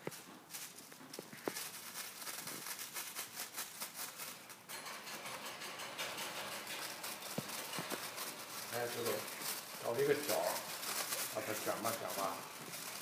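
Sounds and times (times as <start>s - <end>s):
plastic bag crinkling: 0.0s - 4.7s, 6.6s - 13.0s.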